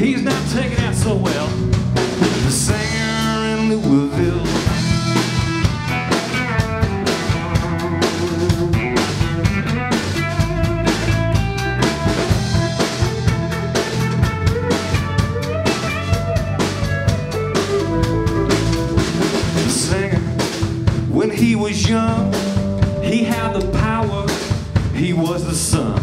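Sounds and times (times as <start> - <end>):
electric guitar: 0.0 - 25.1
drum kit: 0.0 - 26.0
electric bass: 0.0 - 26.0.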